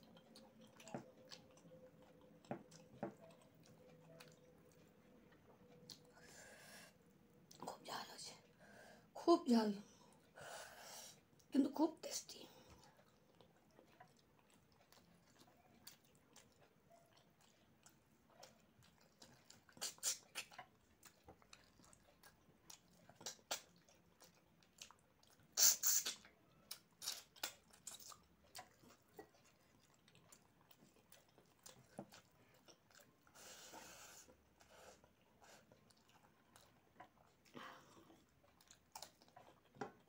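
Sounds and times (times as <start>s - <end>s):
chewing and wet mouth smacks: 0.0s - 8.5s, 12.5s - 40.0s.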